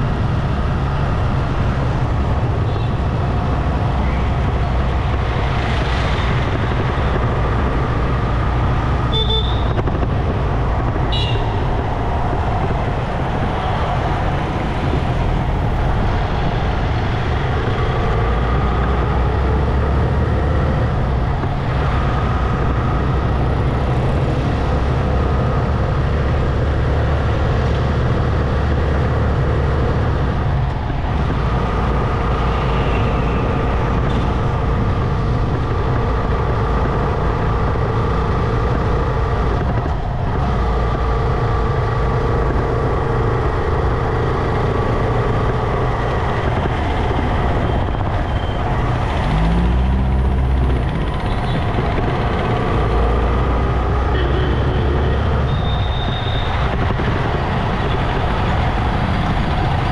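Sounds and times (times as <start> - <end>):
motorcycle engine: 0.0 - 59.9
traffic: 0.0 - 59.9.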